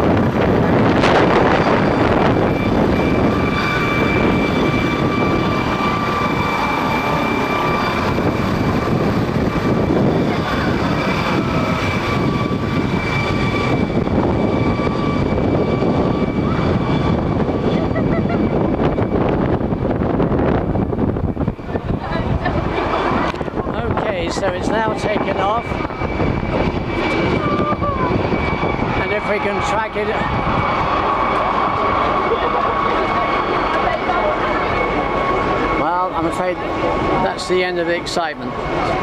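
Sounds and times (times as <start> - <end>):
helicopter rotor noise: 0.0 - 39.0
helicopter turbine whine: 0.0 - 39.0.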